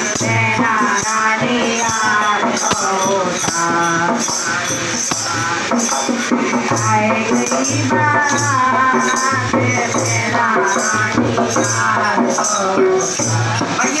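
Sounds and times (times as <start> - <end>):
rattling shaker percussion: 0.0 - 14.0
voices singing devotional song: 0.0 - 14.0.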